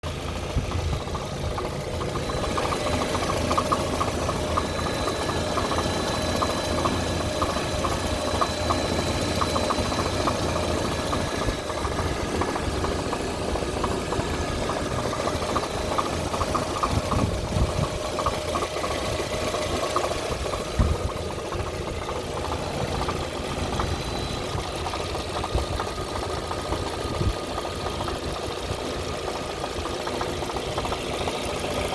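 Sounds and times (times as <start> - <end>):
car engine running: 0.0 - 31.9
engine ticking: 0.0 - 31.9
sharp engine knock: 0.5 - 31.9.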